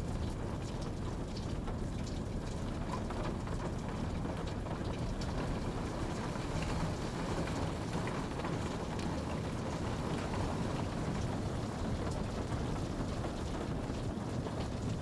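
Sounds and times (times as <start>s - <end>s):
raindrops ticking on a surface: 0.0s - 15.0s.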